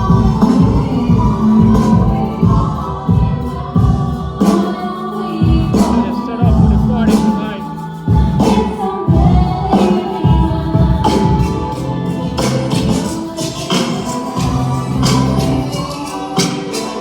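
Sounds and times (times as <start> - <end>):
loud music with singing: 0.0 - 17.0.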